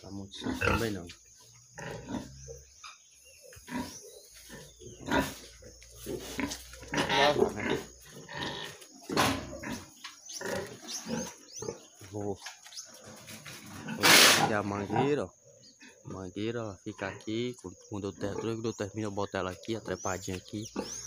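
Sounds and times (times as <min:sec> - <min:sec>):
pigs grunting: 0:00.0 - 0:18.8, 0:19.5 - 0:21.0.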